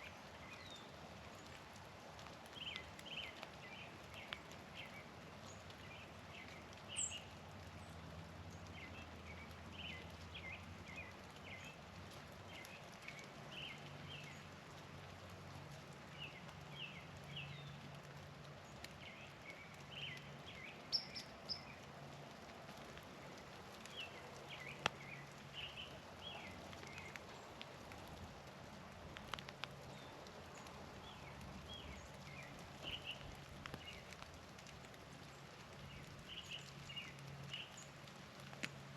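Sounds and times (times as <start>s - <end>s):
small birds ticking and chipping: 0.0s - 38.9s.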